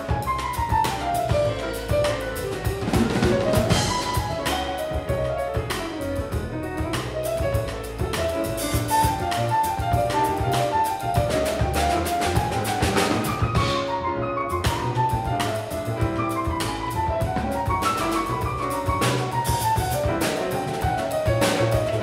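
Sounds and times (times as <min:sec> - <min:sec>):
grand piano: 0:00.0 - 0:22.0
upright double bass: 0:00.0 - 0:22.0.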